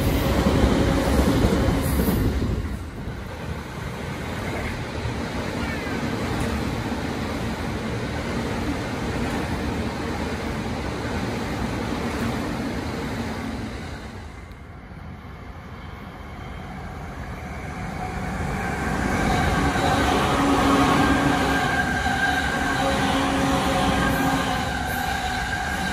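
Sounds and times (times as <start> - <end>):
approaching train: 0.0 - 25.9
electric train running past: 0.0 - 25.9.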